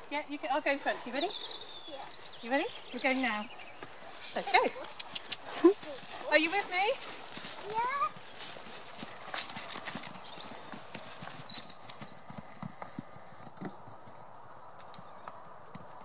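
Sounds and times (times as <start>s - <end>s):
hooves thudding on grass: 0.0s - 16.0s.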